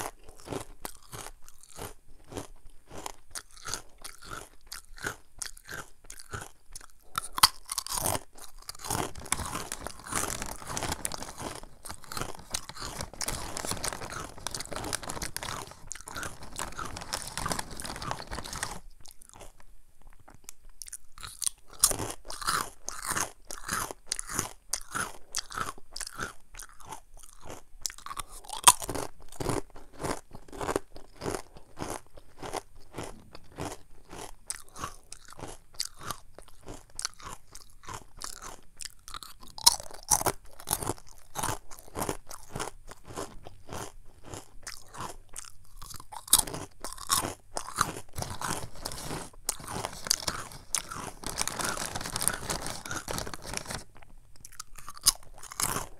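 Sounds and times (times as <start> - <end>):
crunching and chewing snacks: 0.0 - 55.9.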